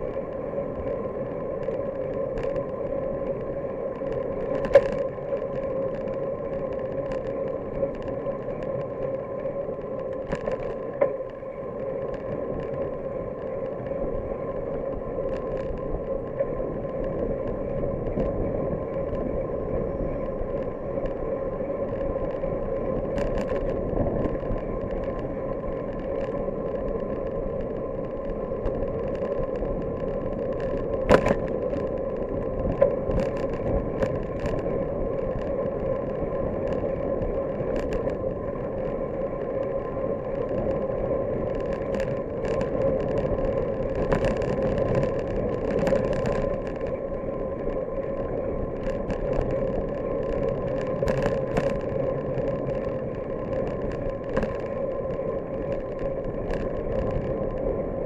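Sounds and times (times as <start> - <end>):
constant hum: 0.0 - 58.0
road rumble: 0.0 - 58.0
wind noise: 0.0 - 58.0.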